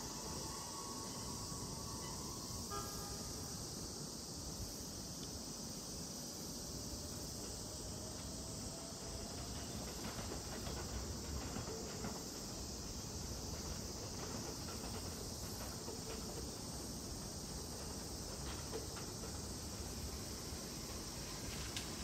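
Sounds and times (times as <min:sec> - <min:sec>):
faint low train rumble: 0:00.0 - 0:22.0
insects chirring: 0:00.0 - 0:22.0.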